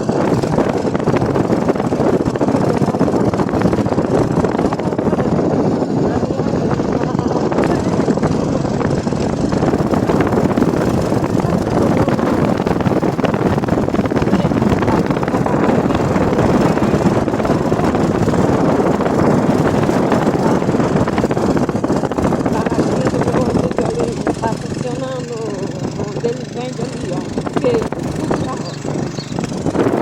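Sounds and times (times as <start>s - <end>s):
car in motion: 0.0s - 30.0s
wind buffeting microphone: 0.0s - 30.0s.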